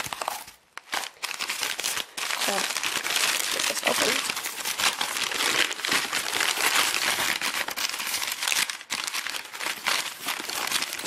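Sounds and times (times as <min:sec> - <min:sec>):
wrapping crinkling: 0:00.0 - 0:11.0.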